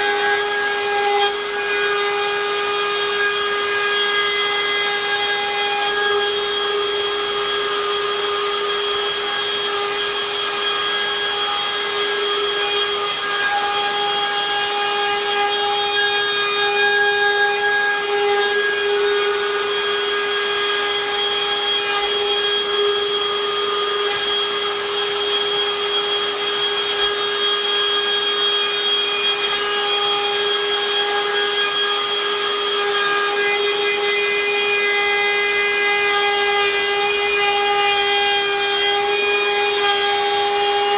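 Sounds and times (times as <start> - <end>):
cutter hissing in wood: 0.0 - 40.9
router motor whine: 0.0 - 40.9.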